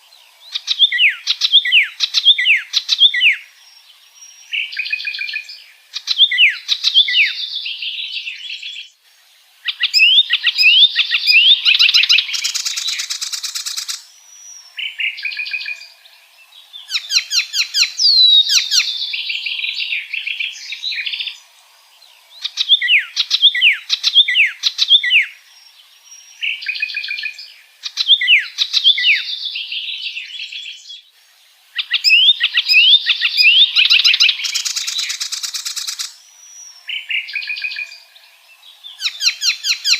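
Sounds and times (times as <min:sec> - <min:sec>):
warbler singing whistled notes: 0:00.0 - 0:09.0, 0:09.6 - 0:39.9.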